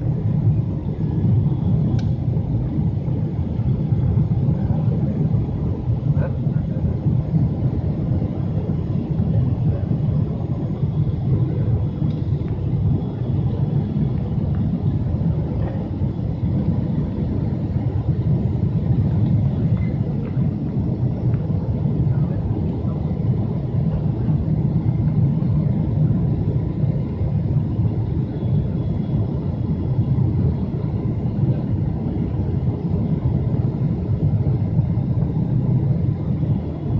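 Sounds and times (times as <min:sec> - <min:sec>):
jet engines rumbling in cabin: 0:00.0 - 0:36.9.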